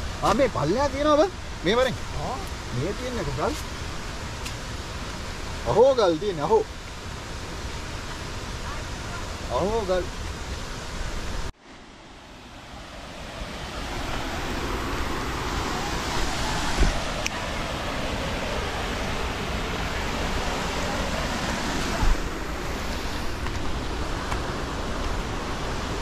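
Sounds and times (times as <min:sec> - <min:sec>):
waterfall rushing: 0:00.0 - 0:11.5, 0:12.1 - 0:26.0.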